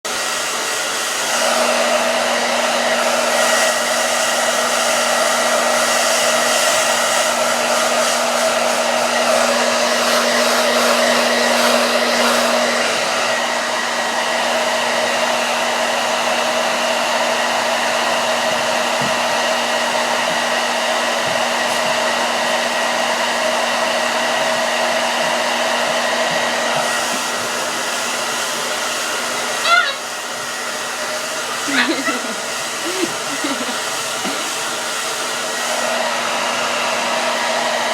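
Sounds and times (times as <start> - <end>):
hair dryer blowing: 0.0 - 37.9.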